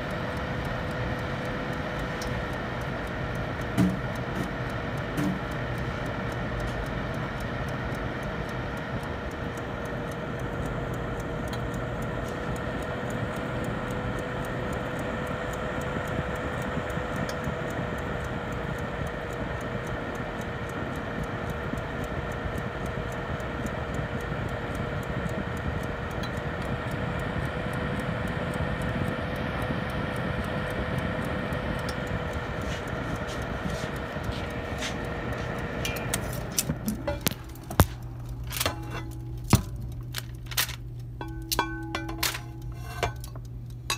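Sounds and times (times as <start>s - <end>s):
cooker fan humming: 0.0s - 43.9s.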